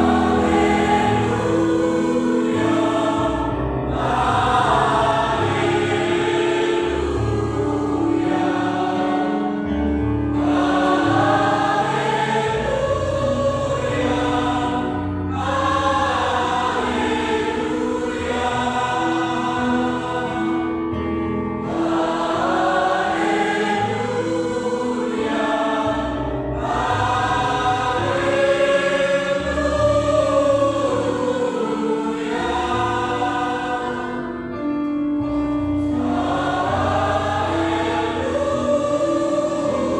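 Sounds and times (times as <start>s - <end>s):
choir singing a sacred song: 0.0s - 34.7s, 35.3s - 39.9s.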